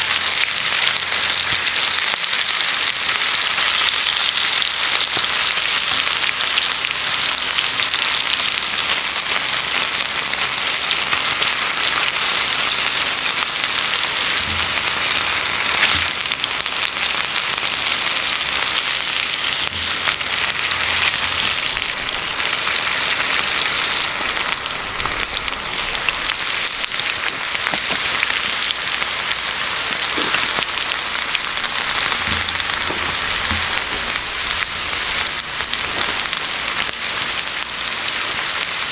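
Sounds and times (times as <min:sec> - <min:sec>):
campfire crackles: 0:00.0 - 0:38.9
food sizzling in a pan: 0:00.0 - 0:38.9.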